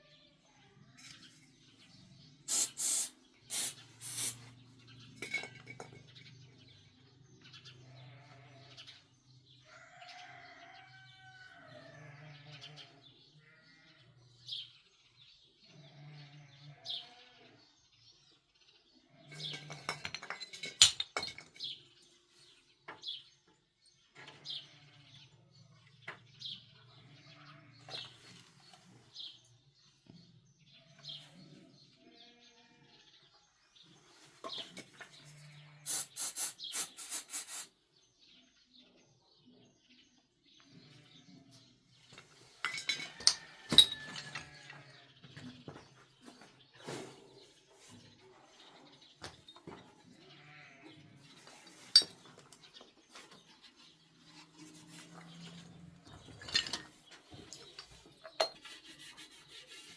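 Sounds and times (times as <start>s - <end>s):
small birds chirping: 0.0s - 10.4s, 21.6s - 42.7s, 43.4s - 59.9s.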